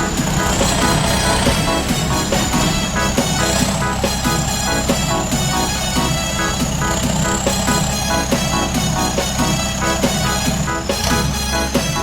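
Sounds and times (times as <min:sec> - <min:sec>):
sustained high tone: 0:00.0 - 0:12.0
upbeat electronic music: 0:00.0 - 0:12.0.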